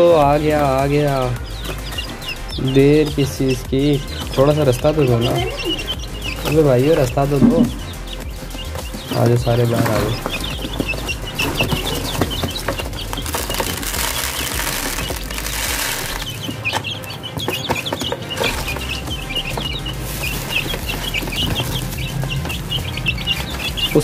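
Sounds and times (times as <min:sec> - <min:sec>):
chicks cheeping: 0:00.0 - 0:24.0.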